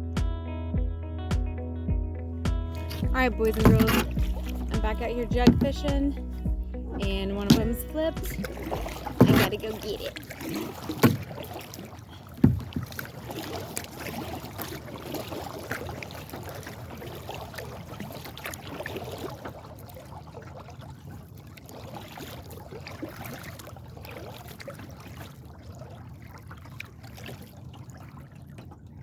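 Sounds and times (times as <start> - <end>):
paddle blades dipping in water: 2.7 - 28.8
water washing along hull: 2.8 - 29.0.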